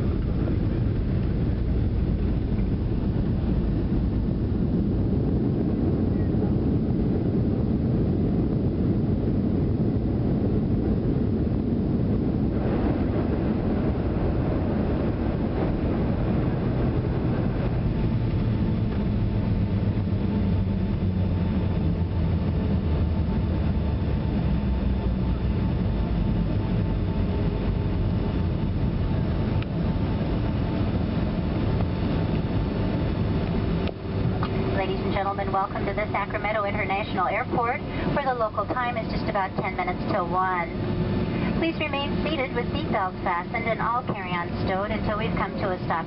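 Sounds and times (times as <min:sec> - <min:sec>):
aircraft cabin engine roar: 0:00.0 - 0:46.0
faint steady whine: 0:00.0 - 0:46.0.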